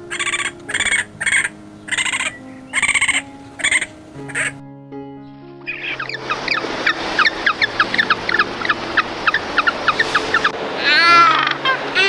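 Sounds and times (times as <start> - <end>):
wavering animal call: 0.0 - 4.6, 5.7 - 12.0
soft background music: 0.0 - 12.0
chicks peeping: 0.1 - 4.6, 5.7 - 12.0.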